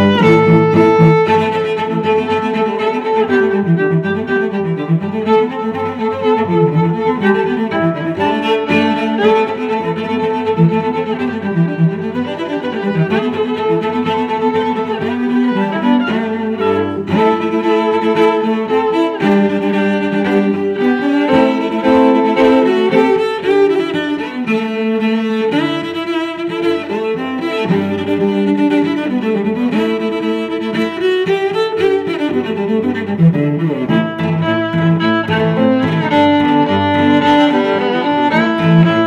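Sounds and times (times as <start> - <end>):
bowed strings music: 0.0 - 39.0.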